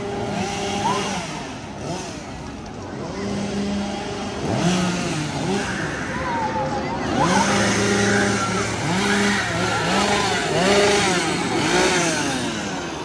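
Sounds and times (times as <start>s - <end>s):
chainsaw engines revving: 0.0s - 13.0s.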